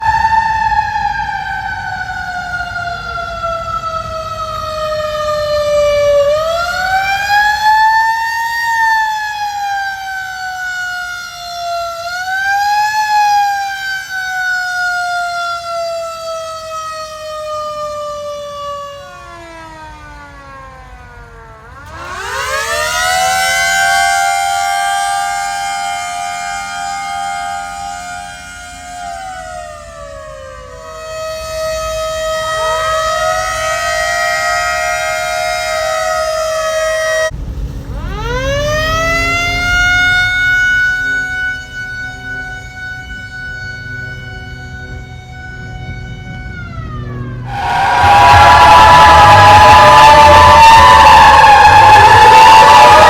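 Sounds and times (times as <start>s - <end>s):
siren wailing: 0.0s - 53.0s.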